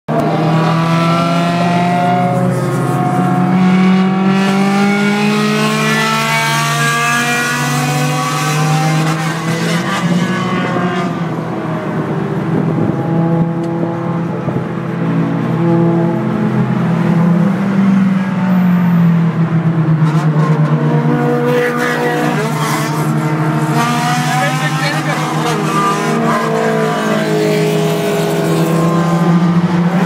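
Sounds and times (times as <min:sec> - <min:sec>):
road and wind noise: 0:00.1 - 0:30.0.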